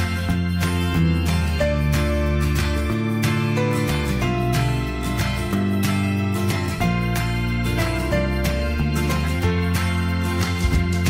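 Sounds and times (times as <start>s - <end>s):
plucked acoustic guitar: 0.0s - 11.0s
soft instrumental music: 0.0s - 11.0s.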